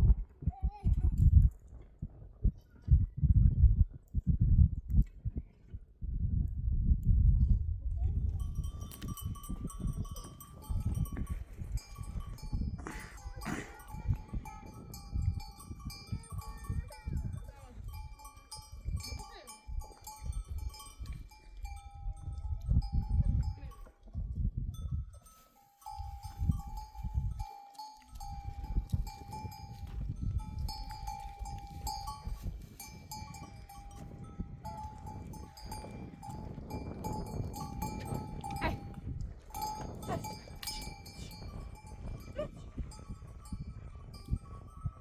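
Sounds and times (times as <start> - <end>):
wind rumble on microphone: 0.0 - 45.0
animal bells clanking: 8.2 - 45.0.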